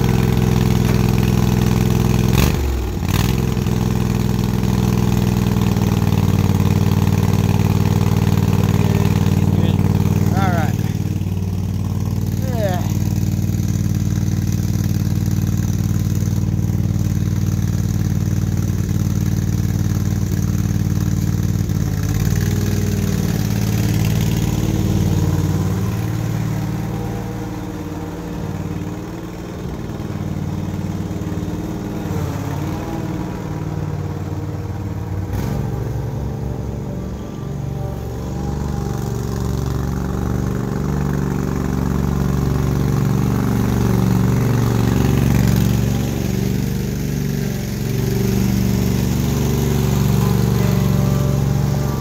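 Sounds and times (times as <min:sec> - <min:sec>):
riding mower engine running: 0:00.0 - 0:52.0.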